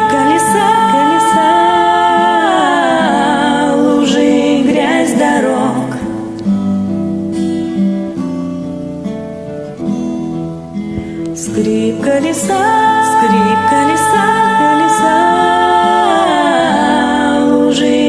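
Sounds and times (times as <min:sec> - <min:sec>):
acoustic guitar picked notes: 0:00.0 - 0:18.0.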